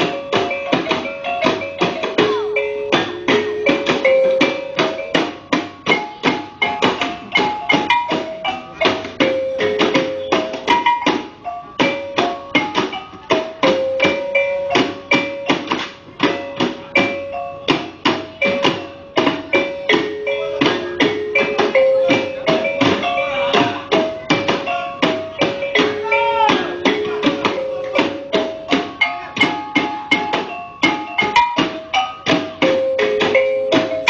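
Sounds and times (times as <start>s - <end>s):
drumming: 0.0s - 34.0s.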